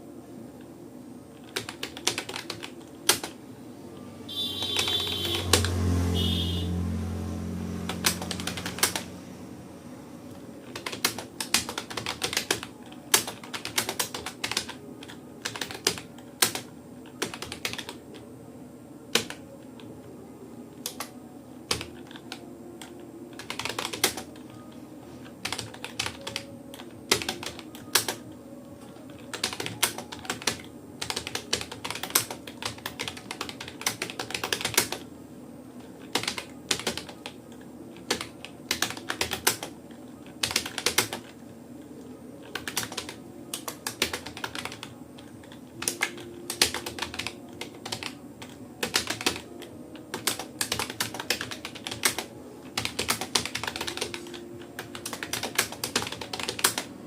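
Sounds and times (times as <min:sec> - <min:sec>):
keyboard keys clacking: 0:04.0 - 0:06.6, 0:07.6 - 0:09.6, 0:10.2 - 0:18.2, 0:21.7 - 0:24.8, 0:25.4 - 0:35.1, 0:36.0 - 0:57.0.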